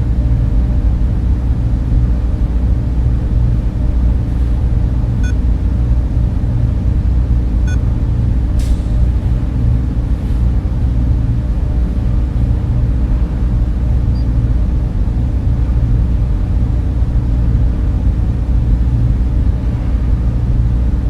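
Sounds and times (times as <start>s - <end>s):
server fans droning: 0.0s - 21.0s.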